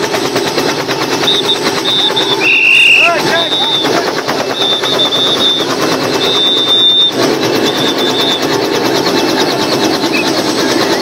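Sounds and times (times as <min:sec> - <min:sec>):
helicopter rotor chopping: 0:00.0 - 0:11.0
high turbine whine: 0:00.0 - 0:11.0.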